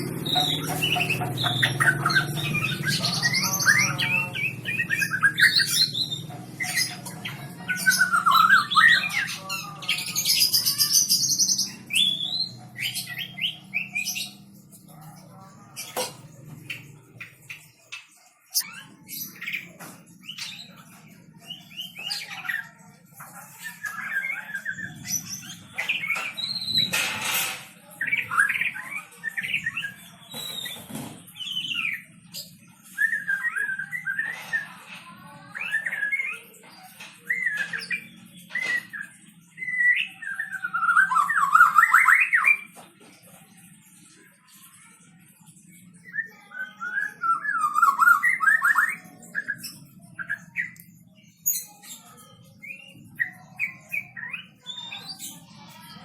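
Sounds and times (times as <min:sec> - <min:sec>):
bird singing: 0:00.0 - 0:27.0, 0:27.9 - 0:42.8, 0:45.6 - 0:56.0.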